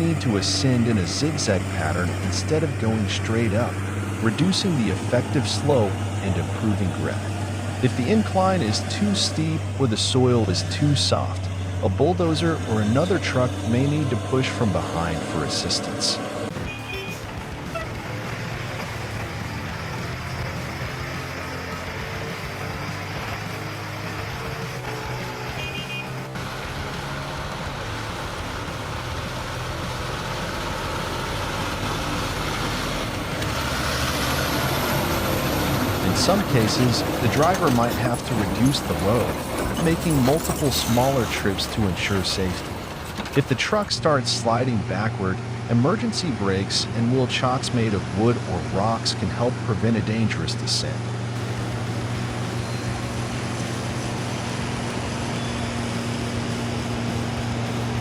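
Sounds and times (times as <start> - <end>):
heavy truck engine running: 0.0 - 58.0
road noise rumble: 0.0 - 58.0.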